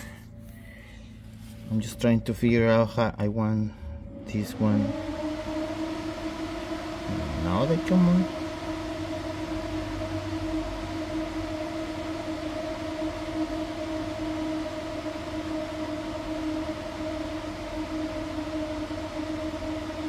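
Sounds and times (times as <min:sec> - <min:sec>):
radiator cooling fan humming: 0:00.0 - 0:20.0.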